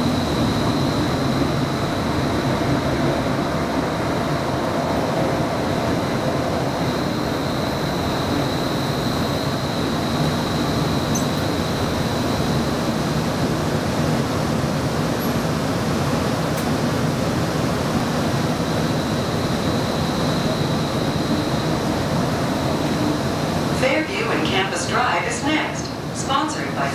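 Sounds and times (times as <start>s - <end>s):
faint high whine: 0.0s - 15.4s, 17.1s - 26.9s
tram running noise: 0.0s - 26.9s.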